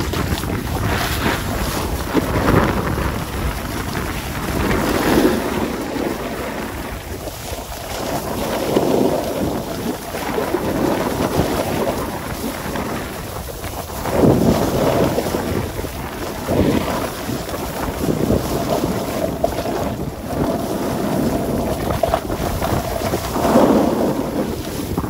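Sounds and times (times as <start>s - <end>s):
snowboard scraping over snow: 0.0s - 25.0s
wind rushing over microphone: 0.0s - 25.0s.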